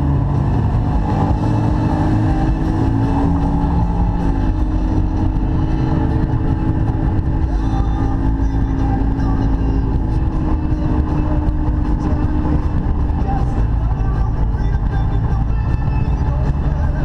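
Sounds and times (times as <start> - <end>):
boat engine droning: 0.0 - 17.0
wind rumble on microphone: 0.0 - 17.0.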